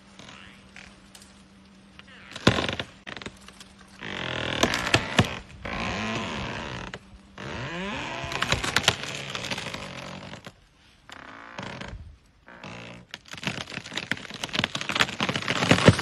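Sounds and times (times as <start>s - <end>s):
tree trunk creaking: 0.0s - 16.0s
wood cracking: 0.0s - 16.0s.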